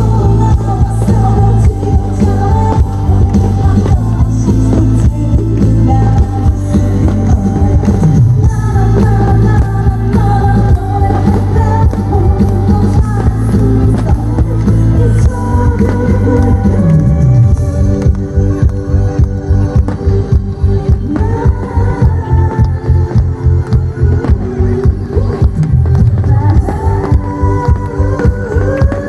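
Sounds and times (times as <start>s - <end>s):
amplified backing track with beat: 0.0s - 29.0s
woman singing into microphone: 0.0s - 29.0s.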